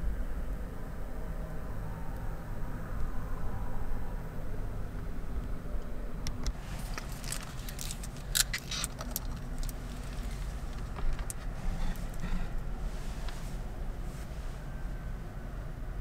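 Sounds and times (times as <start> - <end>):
car rumble: 0.0 - 16.0.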